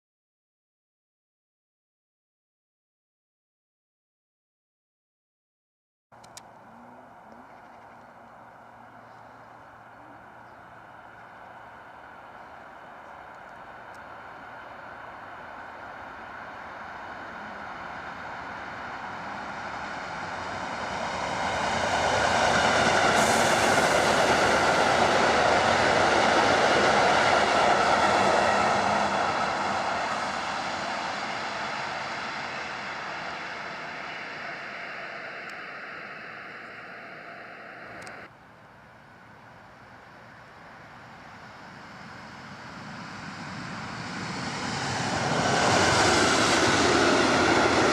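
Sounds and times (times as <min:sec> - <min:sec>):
steady train whine: 0:06.2 - 0:47.9
train passing by: 0:06.2 - 0:47.9.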